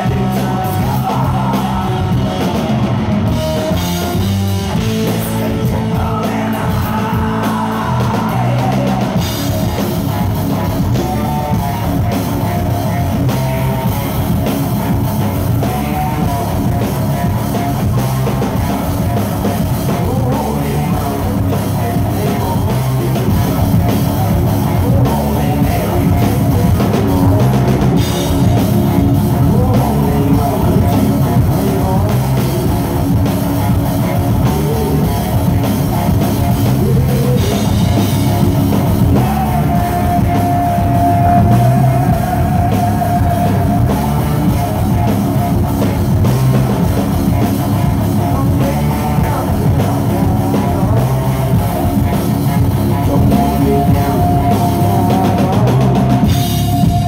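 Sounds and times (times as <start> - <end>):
bass guitar: 0.0 - 57.0
drum kit: 0.0 - 57.0
electric guitars: 0.0 - 57.0
man singing: 0.0 - 57.0.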